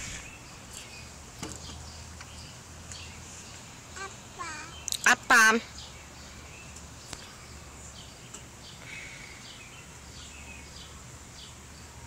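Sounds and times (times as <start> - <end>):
bird chirping: 0.0 - 12.0
steady background hiss: 0.0 - 12.0.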